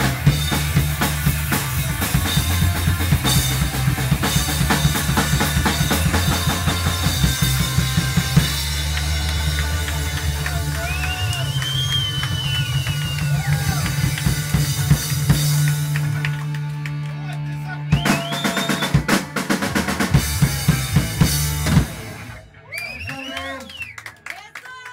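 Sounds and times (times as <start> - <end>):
live rock band playing: 0.0 - 22.7.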